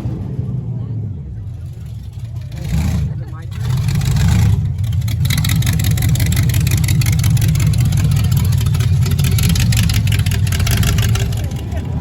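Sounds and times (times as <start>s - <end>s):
loud car engine rumbling: 0.0s - 12.0s.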